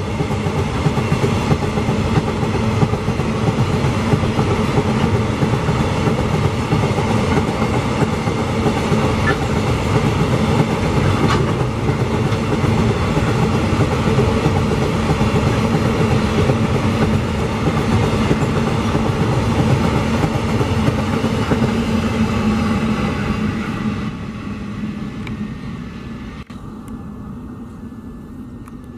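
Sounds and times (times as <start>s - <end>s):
steel train wheels rumbling on rail: 0.0s - 28.9s.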